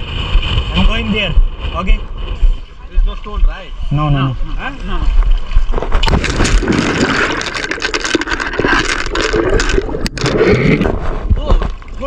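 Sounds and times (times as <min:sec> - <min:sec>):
dense crackles: 0:00.0 - 0:12.0
water splashing and sloshing: 0:00.0 - 0:12.0.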